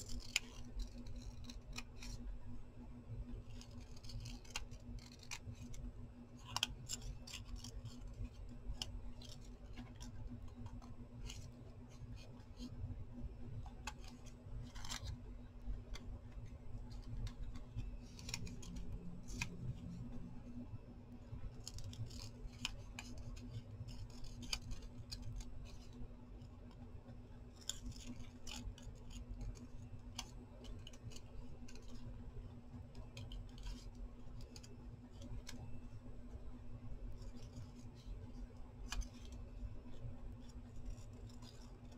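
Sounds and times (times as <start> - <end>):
scissors snipping paper: 0.0 - 2.3, 3.4 - 12.8, 13.6 - 20.2, 21.5 - 26.8, 27.5 - 32.2, 32.8 - 35.8, 37.0 - 41.9
steady low hum: 0.0 - 41.9.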